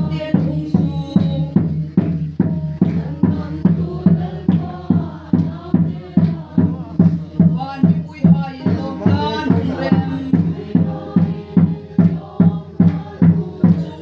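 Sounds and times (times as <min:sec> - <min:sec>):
drum beat: 0:00.0 - 0:14.0
group singing: 0:00.0 - 0:14.0.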